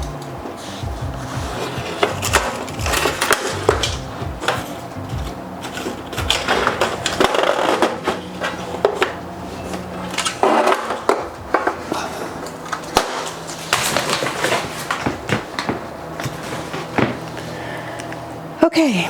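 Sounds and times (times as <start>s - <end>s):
packaging rustling: 0.5s - 4.8s, 5.6s - 17.6s.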